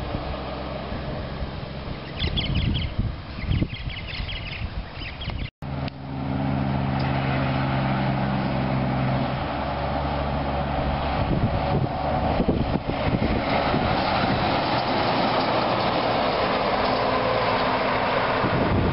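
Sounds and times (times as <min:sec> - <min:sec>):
diesel truck engine: 0:00.0 - 0:04.0, 0:05.3 - 0:18.9
road and tyre noise: 0:00.0 - 0:18.9.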